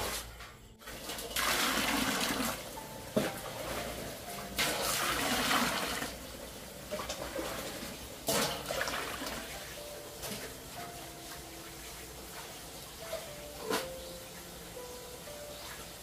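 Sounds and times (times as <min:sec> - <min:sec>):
water pouring and splashing: 0:00.0 - 0:14.8.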